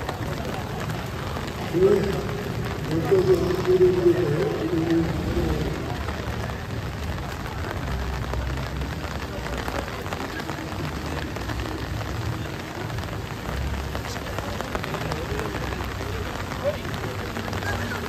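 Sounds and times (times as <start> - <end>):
rain on wet pavement: 0.0 - 18.0.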